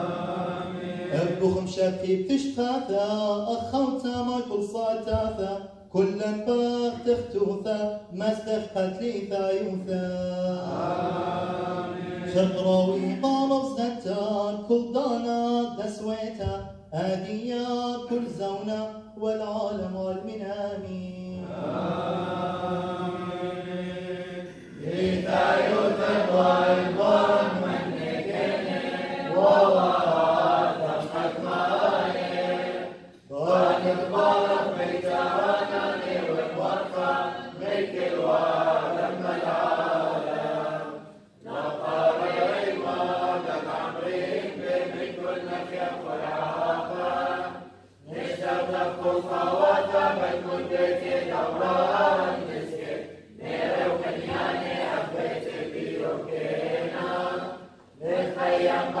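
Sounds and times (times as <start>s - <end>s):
church choir chanting: 0.0s - 4.2s, 8.5s - 14.4s, 20.7s - 59.0s.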